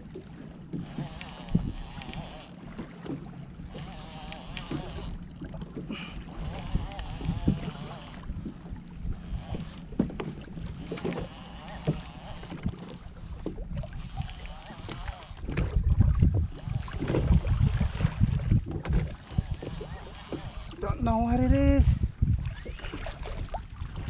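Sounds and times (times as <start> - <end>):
knocks and bumps on boat: 0.0 - 21.3
water slapping against hull: 0.0 - 24.0
wind on microphone: 0.8 - 2.4, 5.9 - 24.0.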